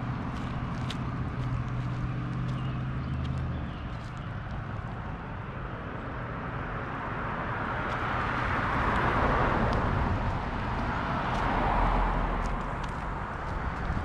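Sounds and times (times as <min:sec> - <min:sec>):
car tyre and road noise: 0:00.0 - 0:14.0.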